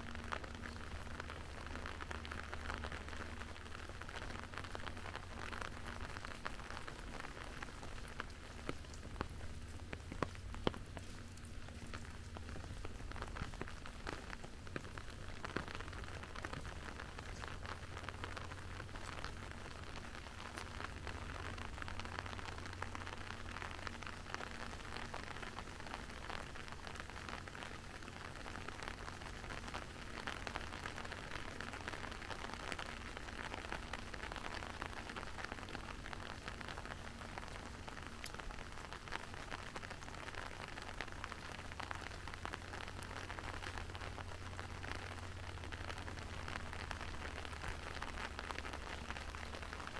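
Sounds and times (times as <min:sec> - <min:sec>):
low steady hum: 0:00.0 - 0:49.9
rain falling: 0:00.0 - 0:49.9.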